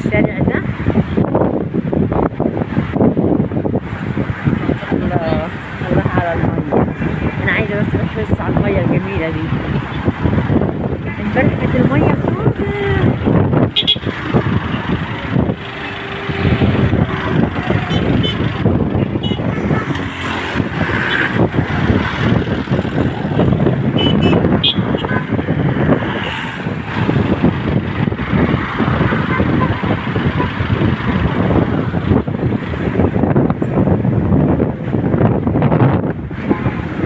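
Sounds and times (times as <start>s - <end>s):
road traffic passing: 0.0s - 37.0s
wind buffeting microphone: 0.0s - 37.0s.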